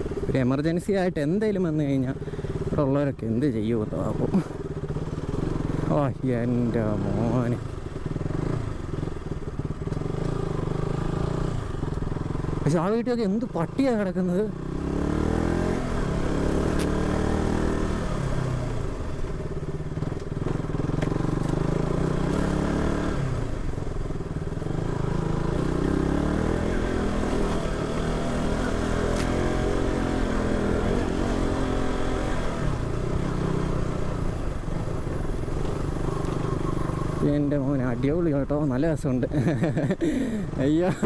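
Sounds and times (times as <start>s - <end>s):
motorcycle engine revving: 1.8s - 41.0s.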